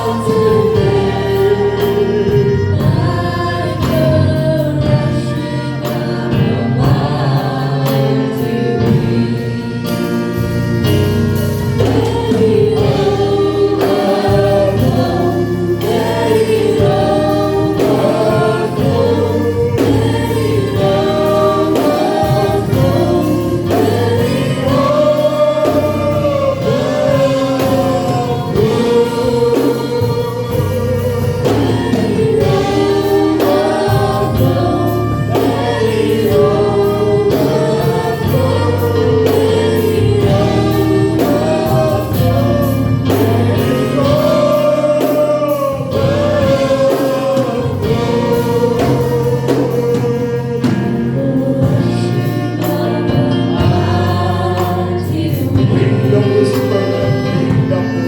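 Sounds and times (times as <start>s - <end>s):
group singing gospel song: 0.0s - 58.0s
instrumental bass line: 0.0s - 58.0s.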